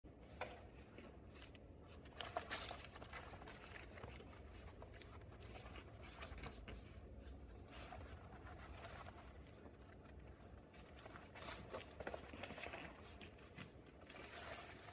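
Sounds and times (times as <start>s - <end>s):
puppy paws scratching on mat: 0.1s - 14.9s.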